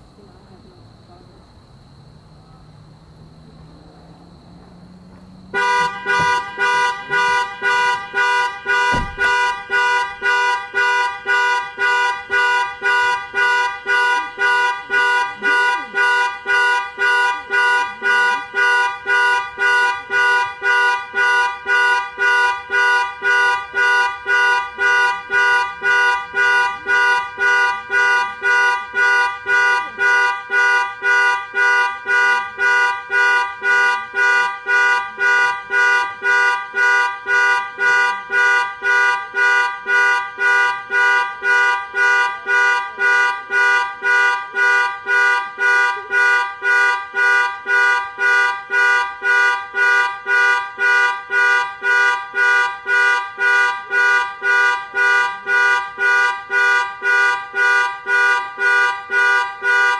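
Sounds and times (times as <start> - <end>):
car alarm two-tone horn honking: 4.5 - 59.9.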